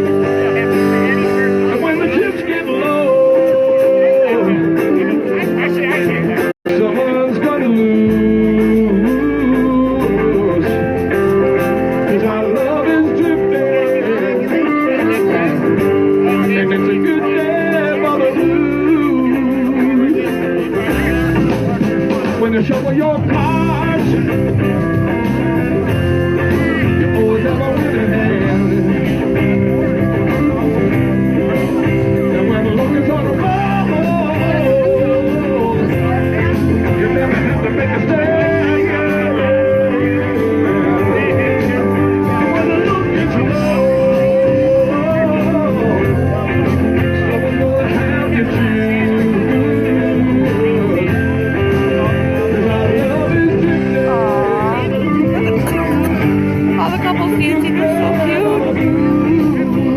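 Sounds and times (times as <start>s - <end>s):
live blues band playing: 0.0s - 59.9s.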